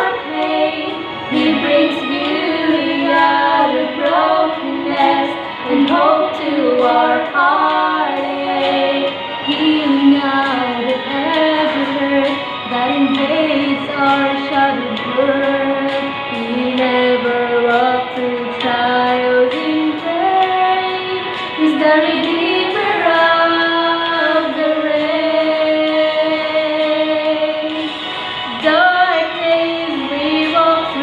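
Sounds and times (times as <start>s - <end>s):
instrumental backing: 0.0s - 31.0s
women singing a duet: 0.0s - 31.0s.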